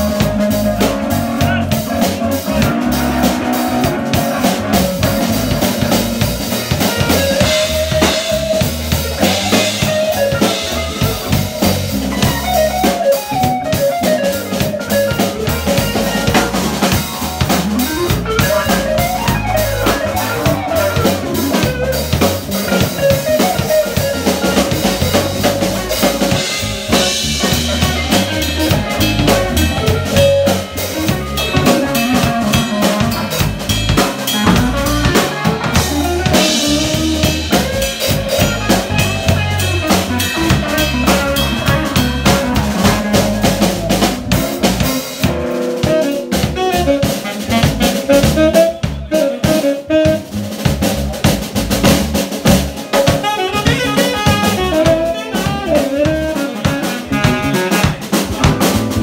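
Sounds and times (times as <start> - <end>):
electric guitar melody: 0.0 - 50.4, 52.4 - 59.0
drum kit beat: 0.0 - 59.0
electric bass: 0.0 - 59.0
keyboard: 0.0 - 59.0.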